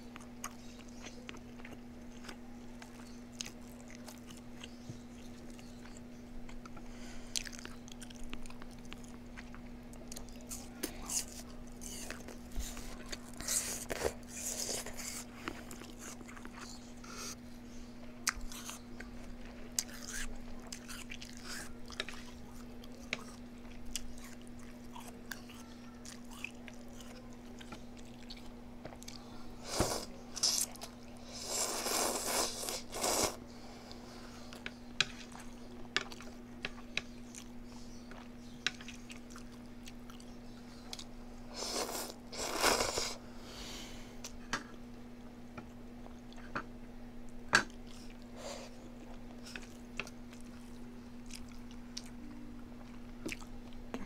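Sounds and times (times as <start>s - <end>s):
faint steady hum: 0.0s - 54.0s
person chewing and crunching food: 0.1s - 17.4s, 18.2s - 43.2s, 47.3s - 54.0s.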